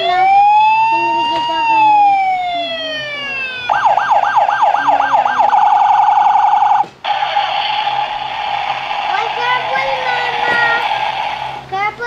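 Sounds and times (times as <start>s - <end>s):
toy electronic siren wailing: 0.0s - 10.8s.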